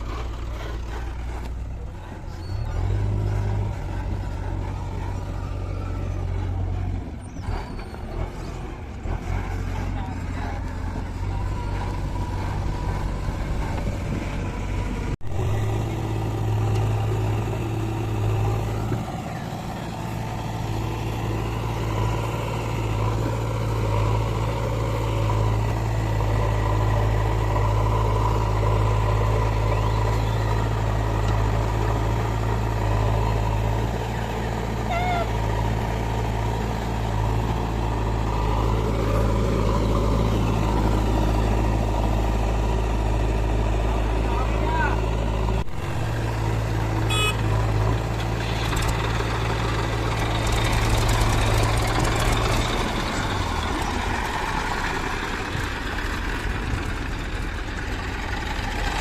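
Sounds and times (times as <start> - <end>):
heavy diesel engine droning: 0.0 - 59.0.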